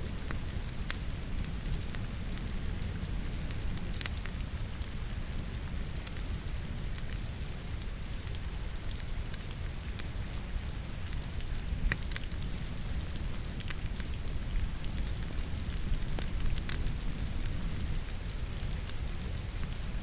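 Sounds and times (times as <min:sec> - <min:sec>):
steady rain: 0:00.0 - 0:20.0
wood fire crackling and popping: 0:00.0 - 0:20.0.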